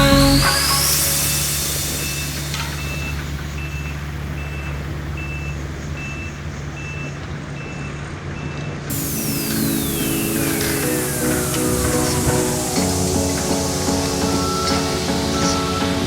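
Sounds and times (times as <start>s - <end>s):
backup alarm beeping: 0.0s - 16.0s.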